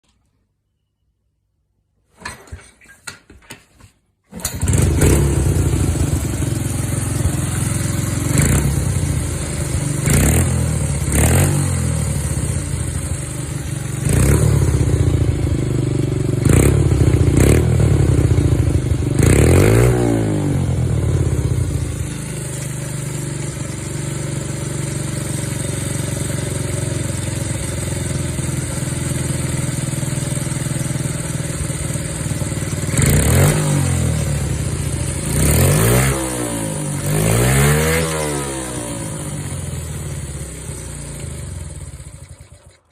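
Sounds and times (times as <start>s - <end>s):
small motorcycle engine revving and idling: 4.3s - 42.9s.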